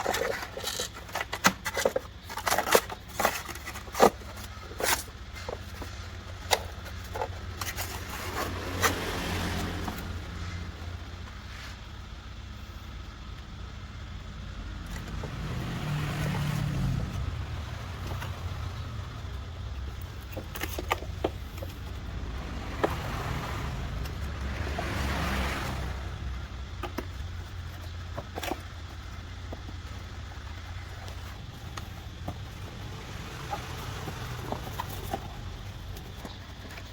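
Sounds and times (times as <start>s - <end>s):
vehicle engine rumble: 0.0s - 36.9s.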